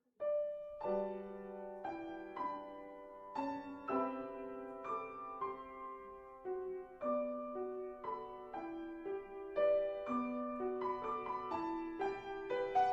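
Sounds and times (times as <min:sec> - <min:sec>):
gentle piano melody: 0:00.2 - 0:12.9.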